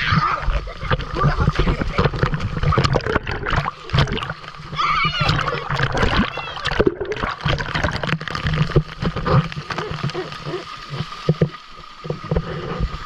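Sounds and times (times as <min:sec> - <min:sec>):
waterfall splashing and gurgling: 0:00.0 - 0:13.0.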